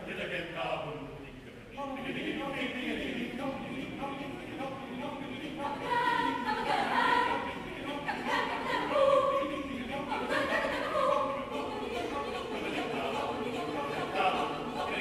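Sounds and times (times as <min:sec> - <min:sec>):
mixed choir singing a cappella: 0:01.7 - 0:15.0.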